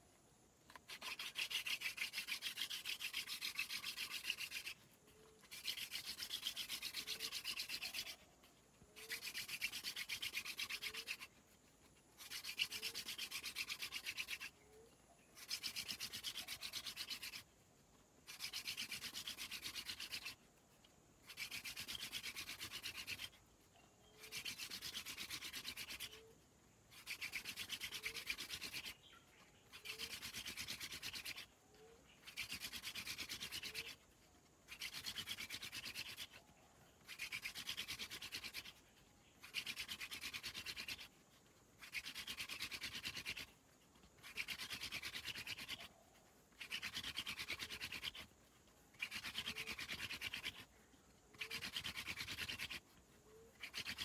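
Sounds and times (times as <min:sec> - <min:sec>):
wooden spindle grinding on wood: 0:00.6 - 0:17.6, 0:18.2 - 0:26.3, 0:26.9 - 0:54.0.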